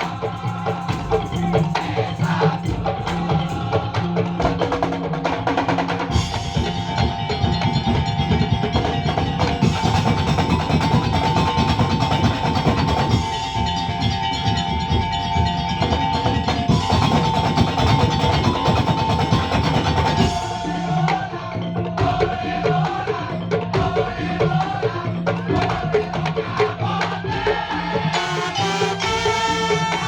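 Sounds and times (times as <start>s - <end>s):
held high melody line: 0.0s - 24.4s, 28.0s - 30.0s
fast drumming: 0.0s - 30.0s.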